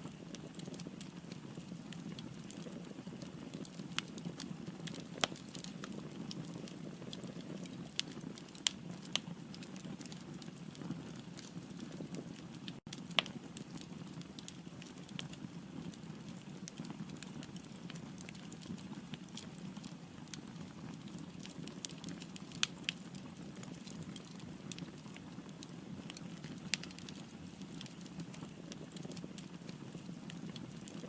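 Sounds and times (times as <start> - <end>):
fire rumbling in a fireplace: 0.0 - 31.0
firewood crackling and popping: 0.0 - 31.0.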